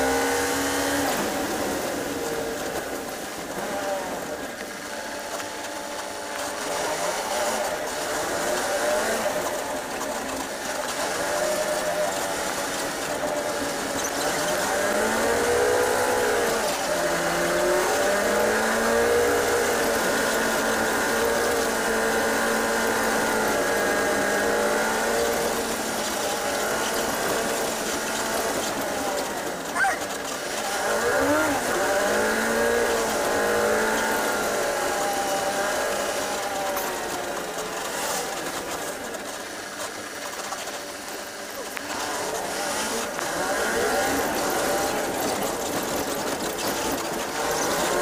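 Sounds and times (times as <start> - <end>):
tyres on wet road: 0.0 - 48.0.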